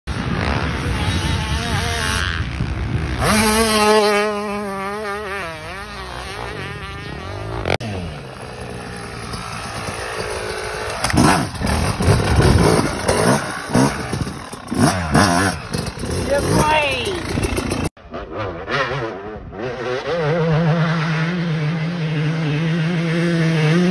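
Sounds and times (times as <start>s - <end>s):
motocross bikes buzzing: 0.1s - 23.9s.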